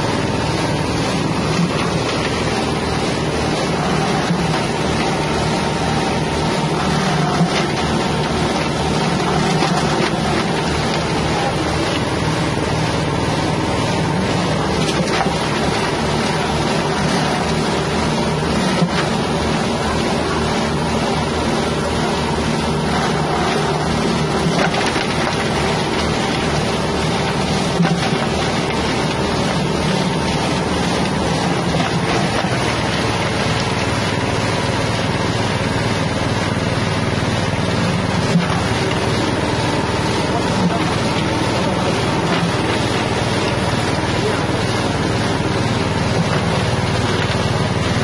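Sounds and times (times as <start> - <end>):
engine-driven grinding mill: 0.0 - 48.0.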